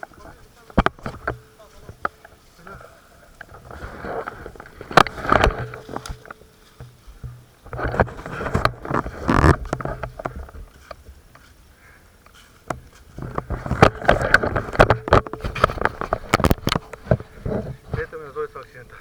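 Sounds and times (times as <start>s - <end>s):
clothing rustling on microphone: 0.0s - 19.0s.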